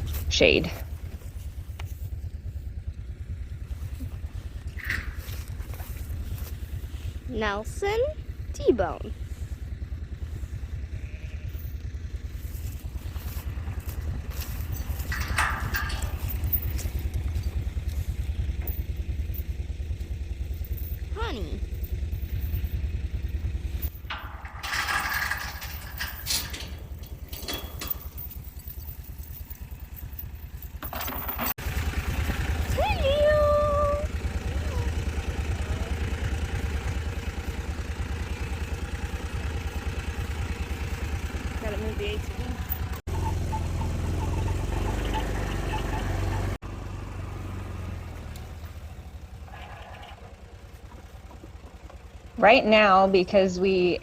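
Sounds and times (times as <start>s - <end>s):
rattling and scraping: 0.0s - 46.6s, 48.2s - 53.9s
atv engine idling: 0.0s - 54.0s.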